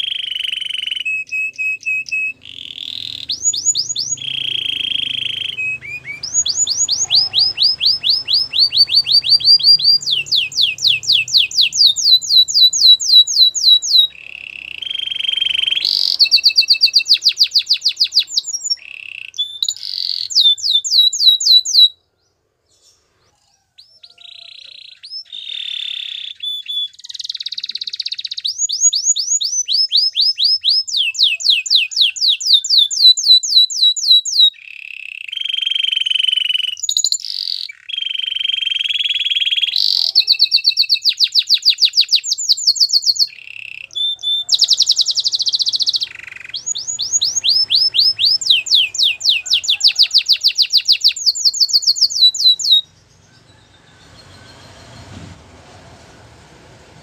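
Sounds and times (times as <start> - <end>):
canary singing: 0.0 - 55.2.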